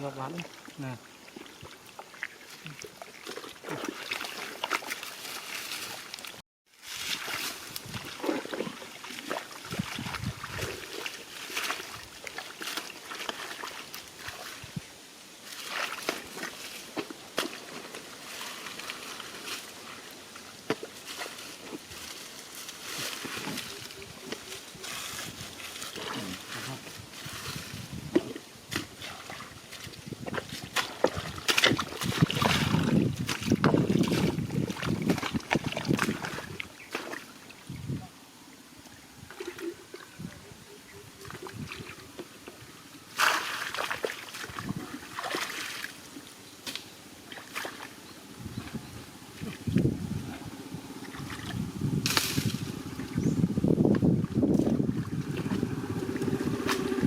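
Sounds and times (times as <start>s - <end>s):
shallow water splashing: 0.1s - 37.9s, 41.2s - 46.3s, 47.2s - 53.2s.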